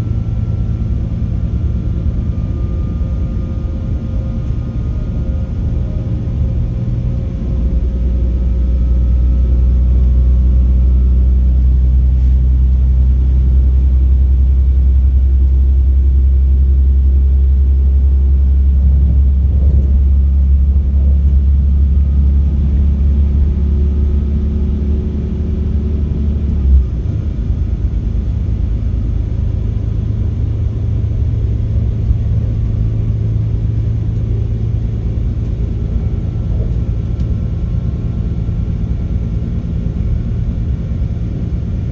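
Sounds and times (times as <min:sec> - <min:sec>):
diesel engine drone: 0:00.0 - 0:41.9.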